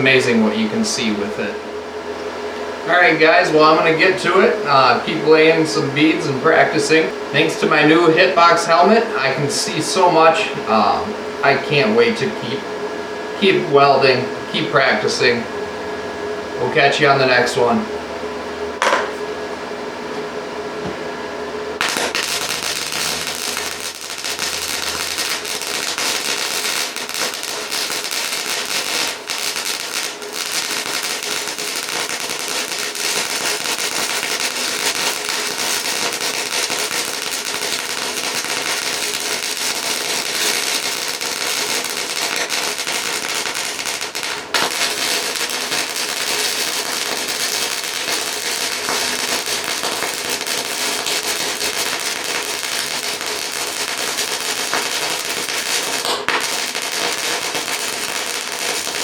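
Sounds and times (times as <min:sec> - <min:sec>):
welder arc crackling: 0:00.0 - 0:15.5, 0:20.1 - 0:59.0.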